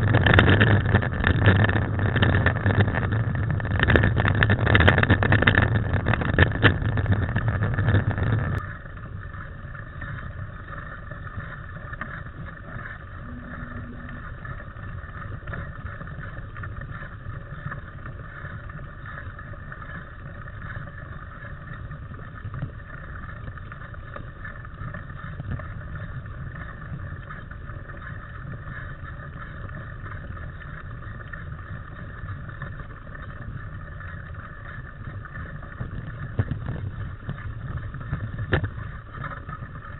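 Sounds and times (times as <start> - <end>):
bike tyres rumbling on dirt trail: 0.0 - 39.9
wind buffeting microphone: 0.0 - 39.9.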